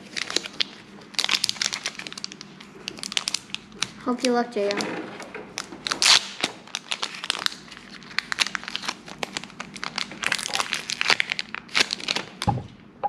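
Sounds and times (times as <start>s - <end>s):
foil wrapper crinkling: 0.0s - 4.1s, 5.5s - 12.5s.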